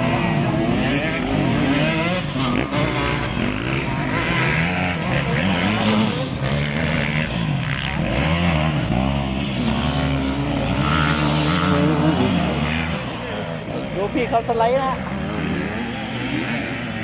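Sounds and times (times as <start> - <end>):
dirt bike engines racing: 0.0 - 17.0.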